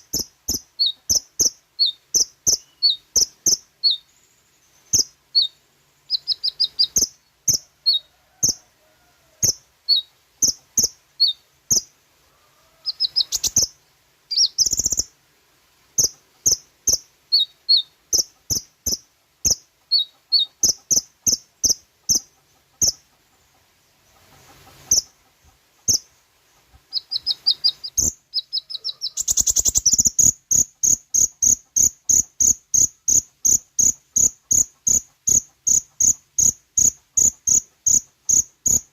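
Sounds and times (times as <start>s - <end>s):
bird singing high chirps: 0.0s - 8.6s, 9.4s - 11.9s, 12.7s - 15.1s, 16.0s - 23.0s, 26.9s - 38.9s.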